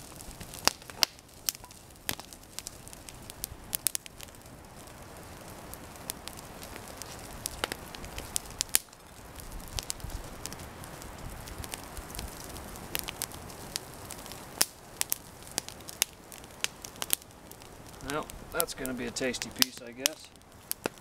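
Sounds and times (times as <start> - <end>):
campfire crackling and popping: 0.0 - 21.0
faint steady hiss: 0.0 - 21.0.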